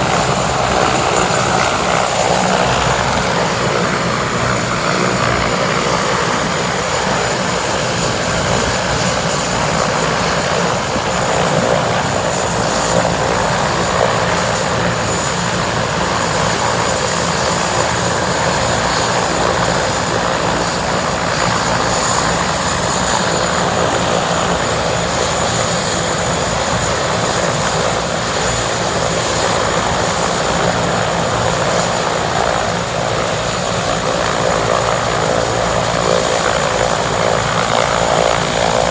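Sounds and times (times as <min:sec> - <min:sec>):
helicopter rotor noise: 0:00.0 - 0:38.9.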